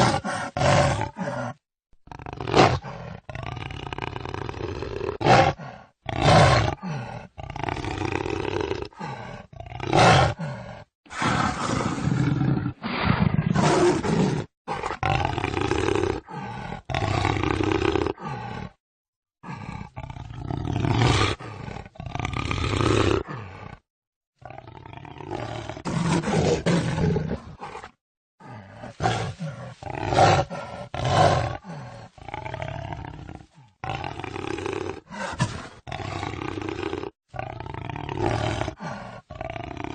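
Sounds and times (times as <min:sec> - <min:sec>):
jaguar roaring and growling: 0:00.0 - 0:18.8, 0:19.4 - 0:23.8, 0:24.4 - 0:39.9.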